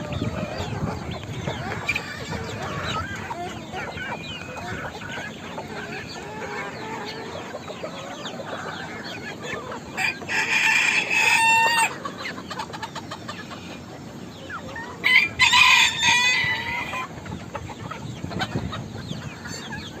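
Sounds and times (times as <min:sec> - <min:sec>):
roosters crowing: 0:00.0 - 0:12.7, 0:14.6 - 0:20.0
chickens clucking and cheeping: 0:00.0 - 0:20.0.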